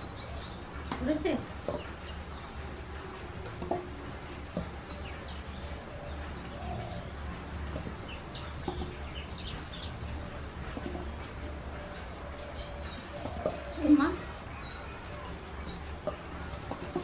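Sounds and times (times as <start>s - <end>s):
small birds chirping: 0.0s - 3.0s, 4.5s - 17.0s
steady low hum: 0.0s - 17.0s.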